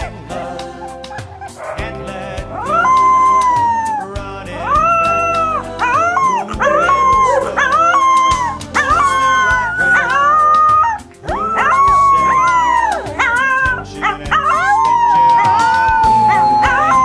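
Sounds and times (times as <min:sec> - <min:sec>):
background music: 0:00.0 - 0:17.0
puppy howling: 0:00.0 - 0:17.0.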